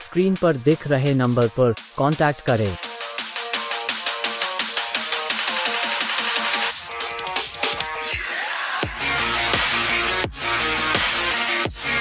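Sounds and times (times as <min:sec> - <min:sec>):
electronic music with fast beat: 0:00.0 - 0:12.0.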